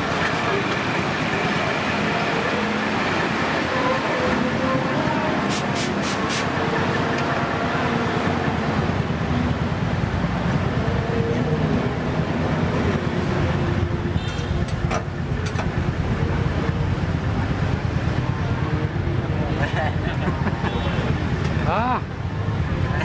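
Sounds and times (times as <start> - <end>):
traffic: 0.0 - 23.0.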